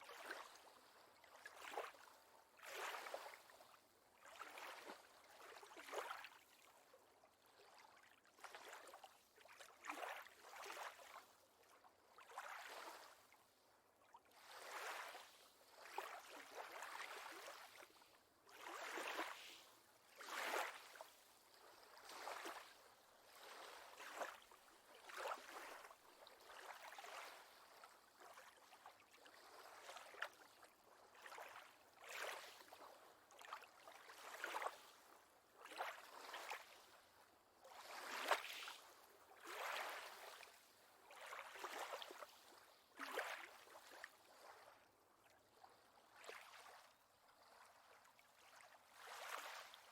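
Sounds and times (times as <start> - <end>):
faint lake water lapping: 0.1 - 49.9.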